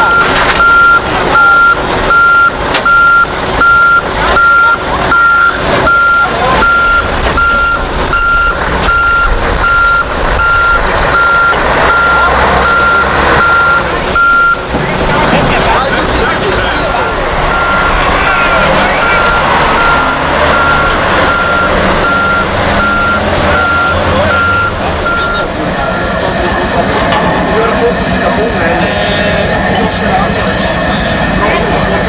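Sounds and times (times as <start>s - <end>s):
continuous background din: 0.0s - 32.0s
vehicle reversing alarm beeping: 0.0s - 32.0s.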